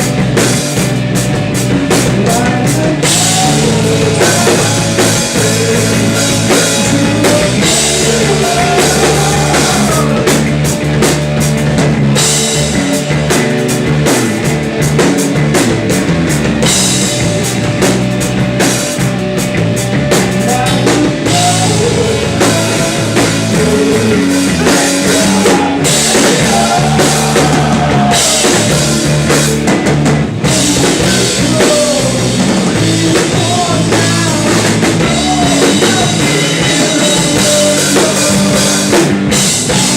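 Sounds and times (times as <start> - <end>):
drum kit and cymbals: 0.0 - 39.9
rock band playing live: 0.0 - 39.9.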